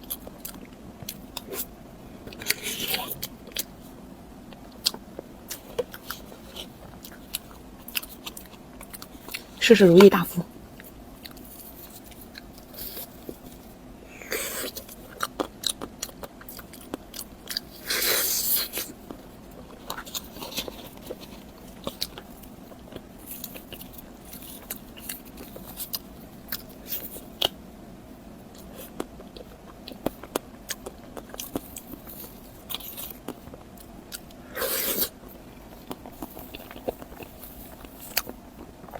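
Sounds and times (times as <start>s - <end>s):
person chewing and biting: 2.3s - 3.9s, 4.5s - 9.6s, 10.7s - 27.6s, 28.5s - 38.9s.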